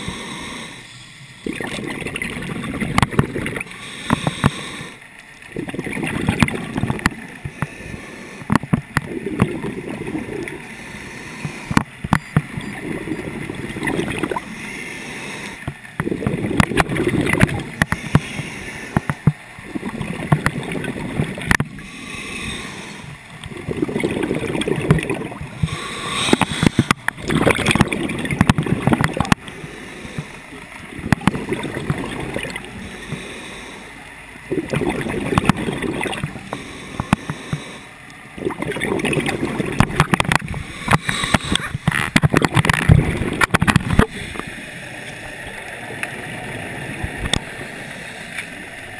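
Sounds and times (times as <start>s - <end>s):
bubbling gurgle of exhaled air: 1.4s - 48.9s.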